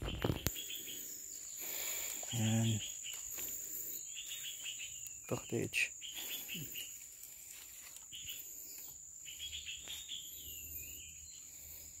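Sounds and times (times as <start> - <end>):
bird chirps: 0.0 - 12.0
insect trill: 0.0 - 12.0.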